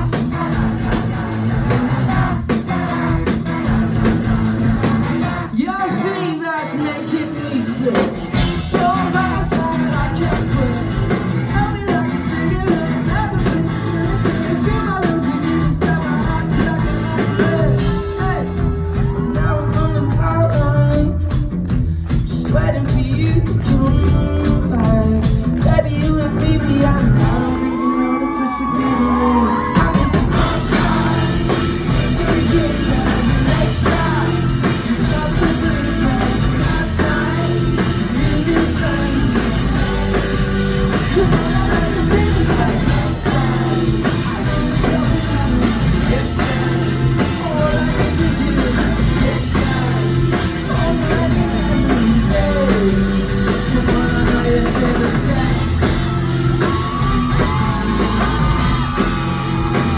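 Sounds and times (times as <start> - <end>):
pop-rock band playing live: 0.0 - 59.9
sung vocals: 0.0 - 59.9.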